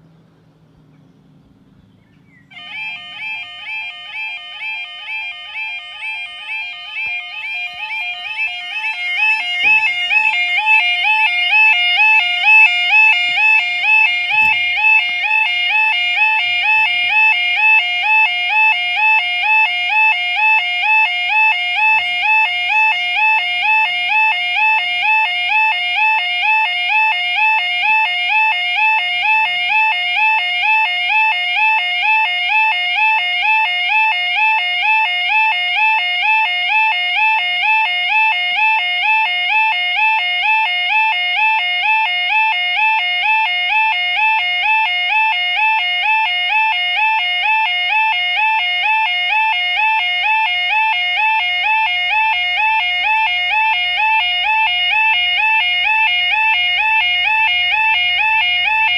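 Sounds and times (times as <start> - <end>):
warbling crossing alarm: 2.2 - 58.9.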